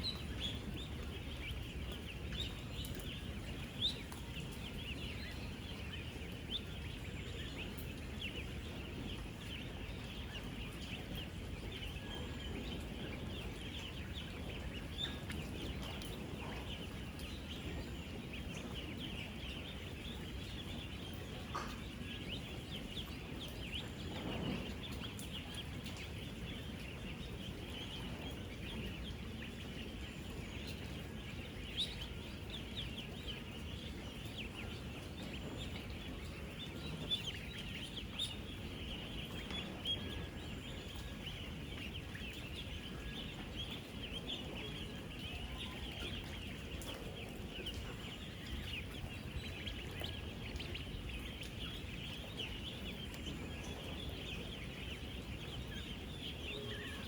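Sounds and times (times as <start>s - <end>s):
ducklings peeping: 0.0s - 57.0s
low steady background noise: 0.0s - 57.0s.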